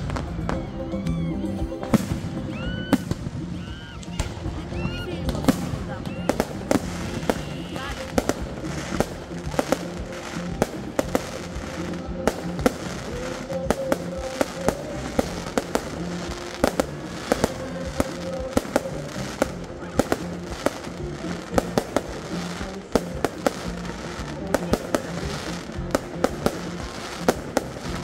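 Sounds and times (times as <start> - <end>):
fireworks banging: 0.0 - 28.0
music playing: 0.0 - 28.0.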